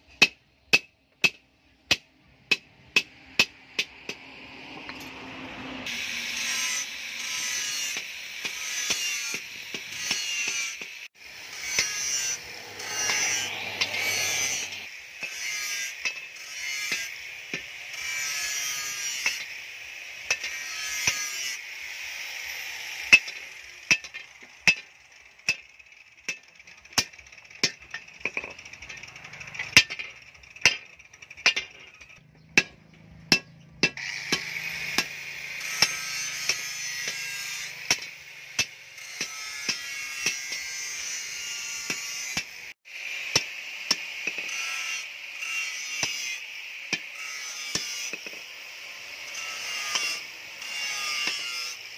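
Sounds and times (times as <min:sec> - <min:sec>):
hammer striking hot steel: 0:00.1 - 0:05.1, 0:06.4 - 0:21.7, 0:22.8 - 0:42.6, 0:43.2 - 0:48.5, 0:49.4 - 0:51.8.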